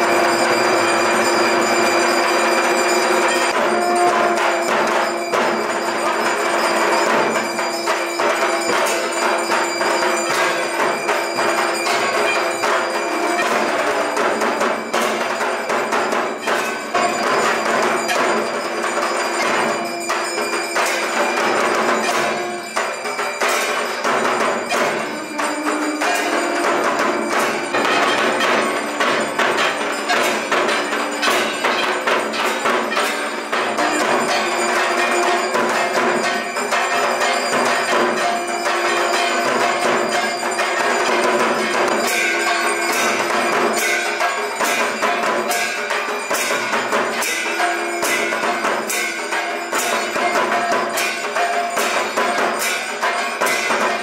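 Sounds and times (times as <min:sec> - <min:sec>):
drums beating: 0:00.0 - 0:54.0
hand bell ringing: 0:00.0 - 0:54.0
hand cymbals clashing: 0:00.0 - 0:54.0.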